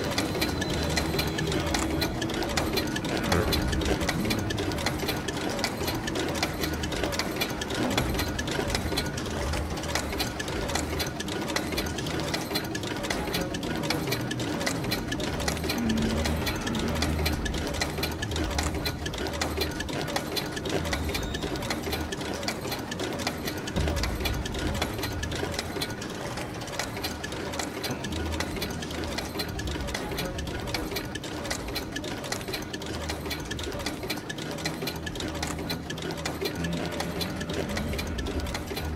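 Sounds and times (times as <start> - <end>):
small machine ticking over low hum: 0.0 - 38.9.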